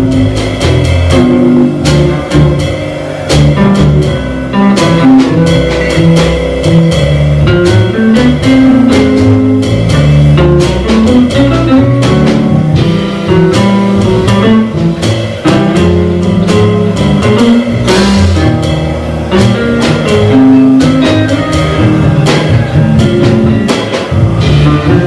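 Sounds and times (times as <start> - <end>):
cymbal and drum strokes: 0.0 - 25.0
electric guitar line: 0.0 - 25.0
walking upright bass: 0.0 - 25.0.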